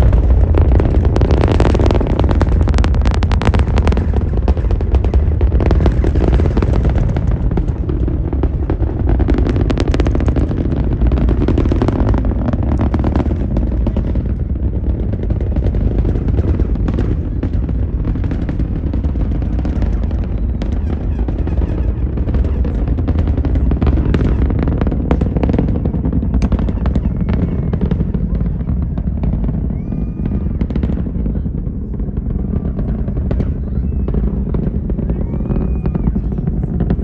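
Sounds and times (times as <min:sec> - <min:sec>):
rocket engine rumble and crackling: 0:00.0 - 0:37.0.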